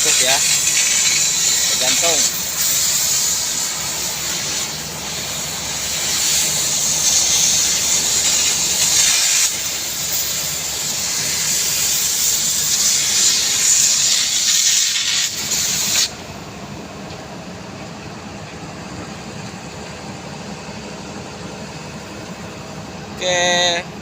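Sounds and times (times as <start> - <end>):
loud steady hiss: 0.0 - 17.6, 18.7 - 24.0.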